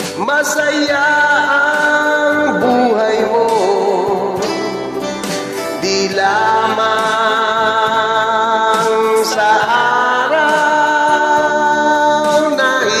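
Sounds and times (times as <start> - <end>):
sung birthday song with long notes: 0.0 - 13.0.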